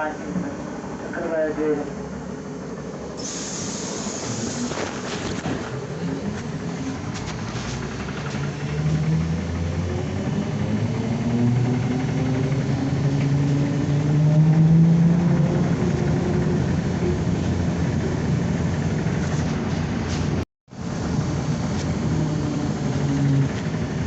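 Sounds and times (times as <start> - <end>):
road and cabin rumble: 0.0 - 24.0.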